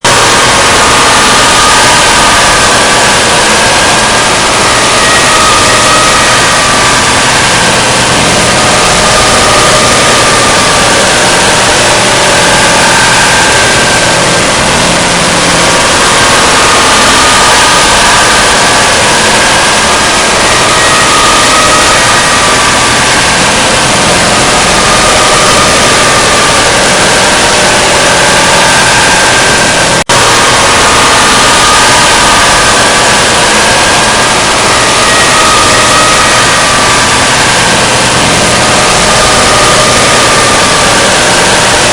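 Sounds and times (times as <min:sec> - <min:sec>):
harsh static noise: 0:00.0 - 0:41.9
faint wavering tones: 0:00.1 - 0:41.9.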